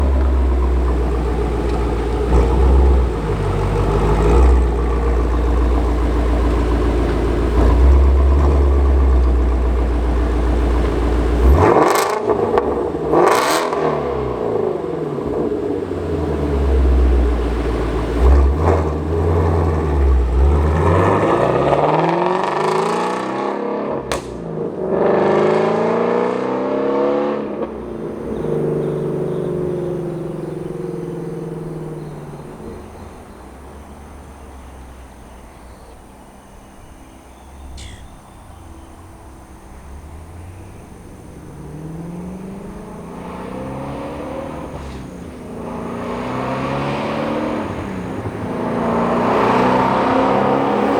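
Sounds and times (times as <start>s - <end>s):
exhaust cracks: 0.0s - 25.5s, 27.6s - 36.2s, 37.6s - 50.9s
car engine revving: 0.0s - 50.9s.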